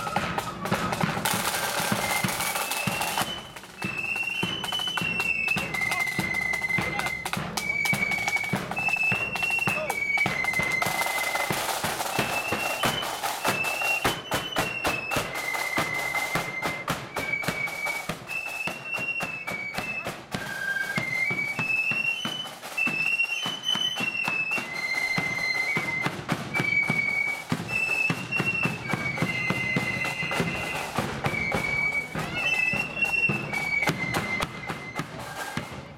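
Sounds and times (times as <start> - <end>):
flute melody: 0.0 - 35.9
side drum rolls: 0.0 - 35.9.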